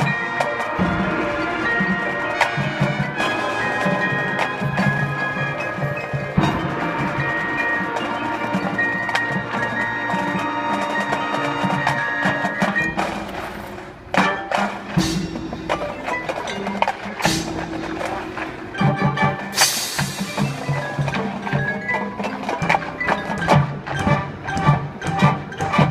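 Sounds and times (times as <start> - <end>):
marching band playing: 0.0 - 25.9
sharp percussion hits: 0.0 - 25.9.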